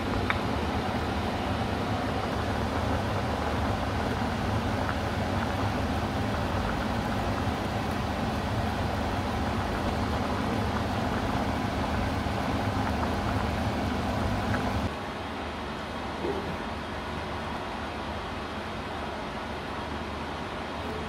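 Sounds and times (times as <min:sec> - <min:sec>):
pot boiling and bubbling: 0:00.0 - 0:17.5.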